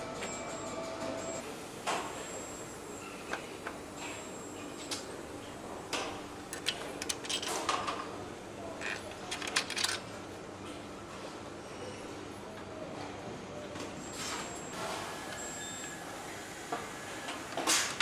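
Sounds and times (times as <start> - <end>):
steady factory hum: 0.0 - 18.0.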